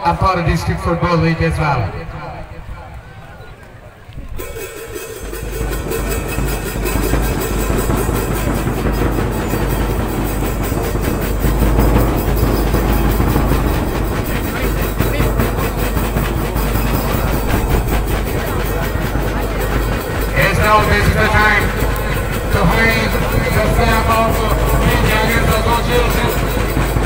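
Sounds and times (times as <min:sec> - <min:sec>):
band playing: 0:04.4 - 0:27.0
fast drum beat: 0:04.4 - 0:27.0.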